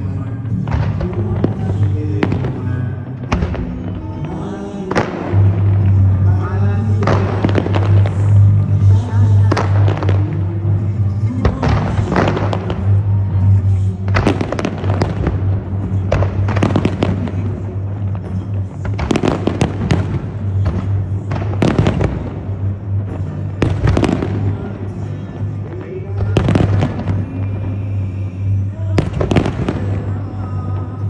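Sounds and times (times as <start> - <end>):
fireworks bangs: 0.0 - 31.0
loud music with deep bass: 0.0 - 31.0.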